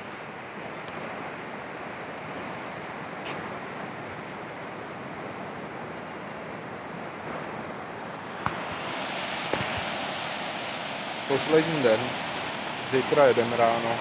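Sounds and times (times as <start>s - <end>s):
surf waves breaking: 0.0s - 14.0s.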